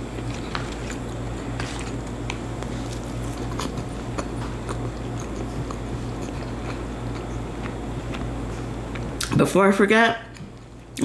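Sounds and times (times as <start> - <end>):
chewing food: 0.2 - 9.4.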